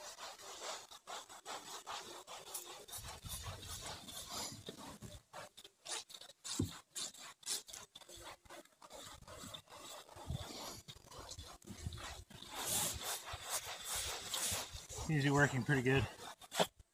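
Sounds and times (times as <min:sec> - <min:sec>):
brush scrubbing rubber roof: 0:00.0 - 0:16.9.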